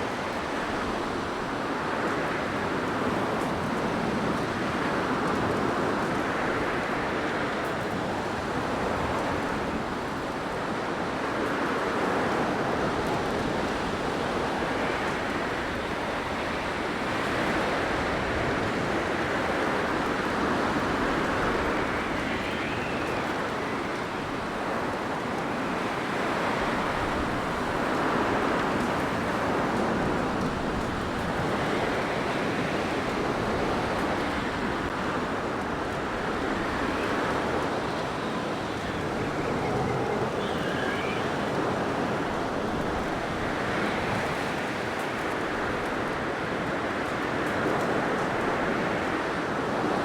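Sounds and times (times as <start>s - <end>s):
blizzard wind: 0.0s - 50.0s.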